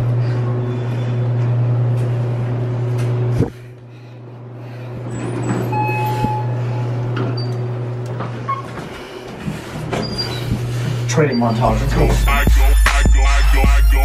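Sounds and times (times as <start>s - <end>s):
elevator hum and rumble: 0.0s - 14.0s.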